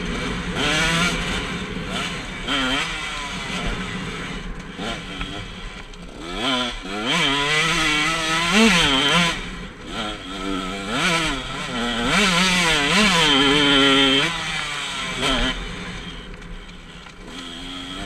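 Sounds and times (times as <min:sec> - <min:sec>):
motocross engine revving: 0:00.0 - 0:18.0.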